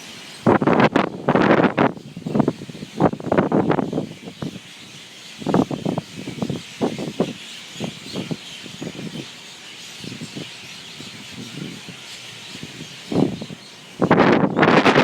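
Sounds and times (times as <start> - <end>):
wind gusts buffeting microphone: 0.0 - 4.7, 5.4 - 9.4, 10.0 - 15.0
birds chirping in chorus: 0.0 - 15.0.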